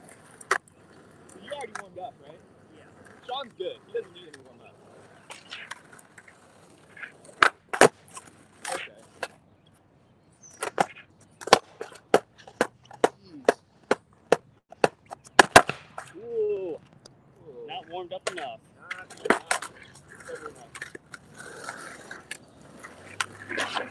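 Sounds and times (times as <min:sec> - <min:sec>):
skateboard clacking on pavement: 0:00.0 - 0:16.2, 0:17.8 - 0:23.9.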